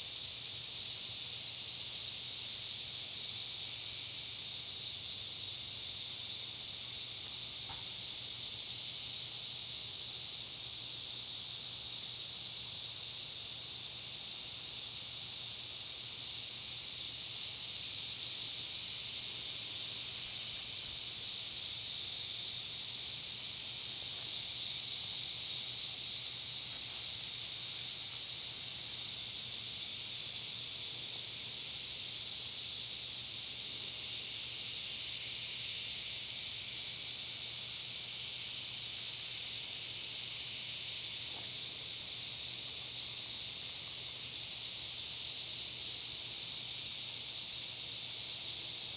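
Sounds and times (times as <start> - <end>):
steady high hiss: 0.0 - 48.9.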